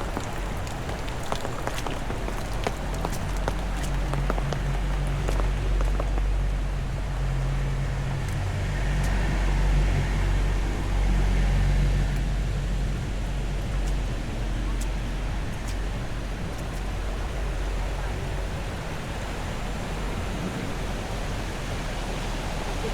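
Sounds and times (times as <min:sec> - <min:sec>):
low rumble and hum: 0:00.0 - 0:22.8
rain falling: 0:00.0 - 0:22.9
raindrops ticking: 0:00.0 - 0:22.9.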